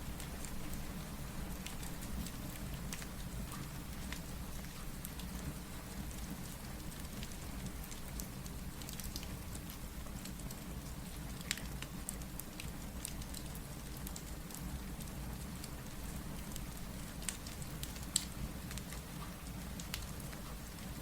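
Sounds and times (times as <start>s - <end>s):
steady rain: 0.0s - 21.0s
wood fire crackling and popping: 1.5s - 5.5s, 6.1s - 21.0s.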